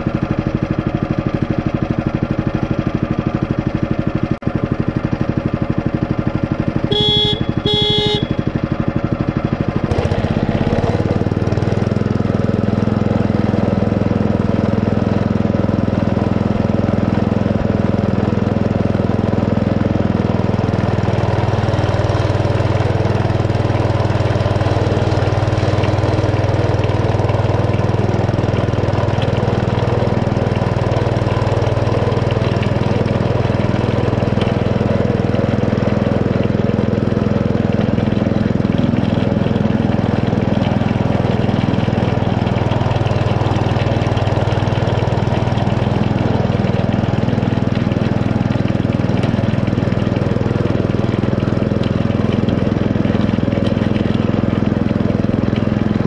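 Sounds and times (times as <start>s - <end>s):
small locomotive engine running: 0.0s - 56.0s.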